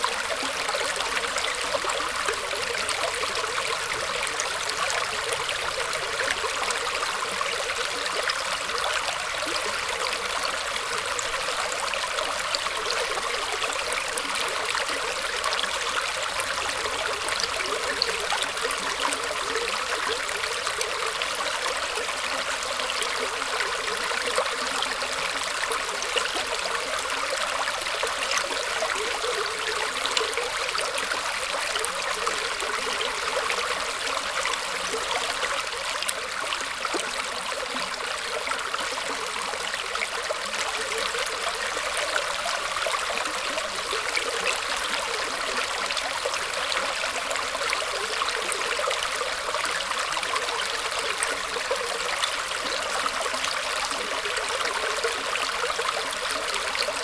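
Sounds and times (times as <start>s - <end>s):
stream water flowing and trickling: 0.0s - 57.0s.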